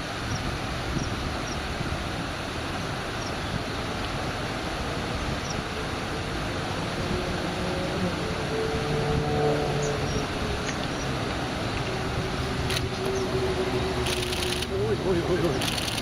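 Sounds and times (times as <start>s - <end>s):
rumbling background noise: 0.0s - 16.0s.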